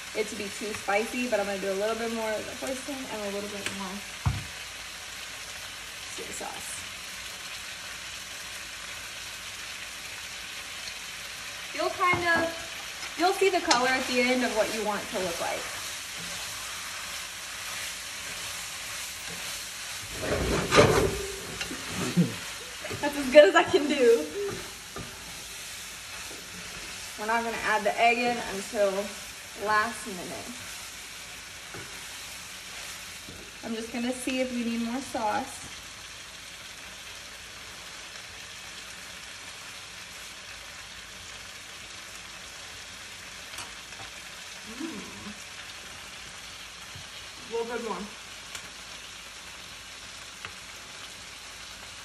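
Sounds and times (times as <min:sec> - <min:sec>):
noodles sizzling in a pan: 0:00.0 - 0:52.0.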